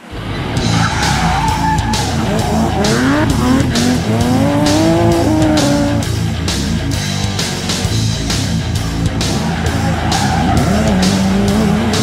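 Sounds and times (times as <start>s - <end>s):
race car engine revving: 0.1s - 12.0s
rock music with drum beat: 0.5s - 12.0s.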